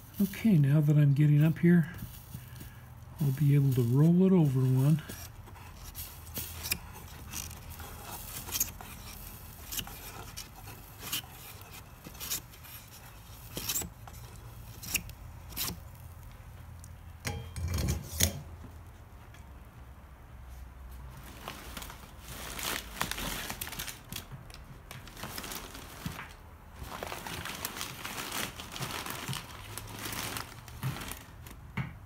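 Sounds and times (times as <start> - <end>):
rustling tissue paper and knocking: 0.0 - 16.7, 20.5 - 32.0.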